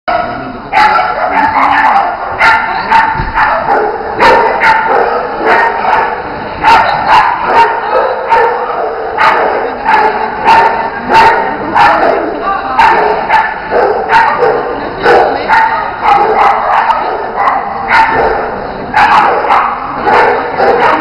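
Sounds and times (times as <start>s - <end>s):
dog barking: 0.1s - 21.0s.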